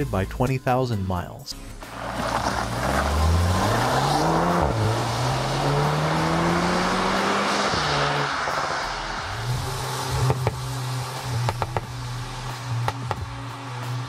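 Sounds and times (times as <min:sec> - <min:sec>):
car engine accelerating through gears: 0:01.8 - 0:14.0
tyre hiss on wet road: 0:01.9 - 0:14.0.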